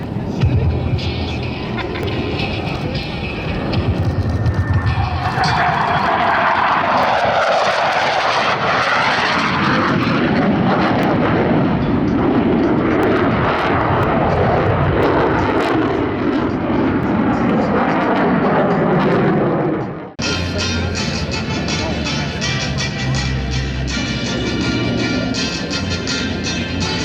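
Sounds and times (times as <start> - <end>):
jet engines roaring overhead: 0.0 - 27.0.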